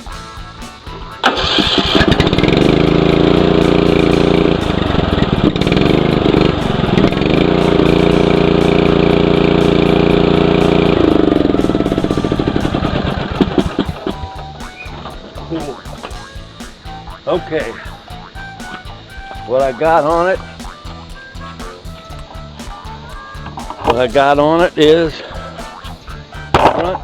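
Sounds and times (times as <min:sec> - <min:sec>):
riding mower engine revving: 0:00.0 - 0:27.0.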